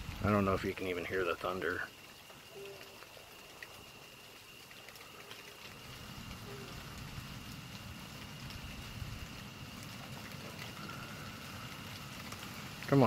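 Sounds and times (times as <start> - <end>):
distant thunder rumble: 0.0 - 4.2, 4.8 - 13.0
rain falling: 0.0 - 13.0.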